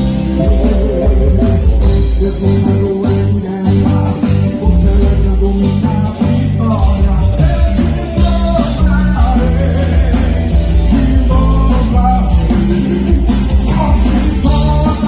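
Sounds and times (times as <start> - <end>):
live band playing rock gospel: 0.0 - 15.0.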